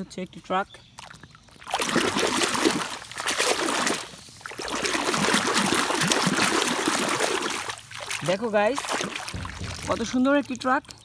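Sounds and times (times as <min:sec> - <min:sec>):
water splashing and sloshing: 0:00.9 - 0:11.0.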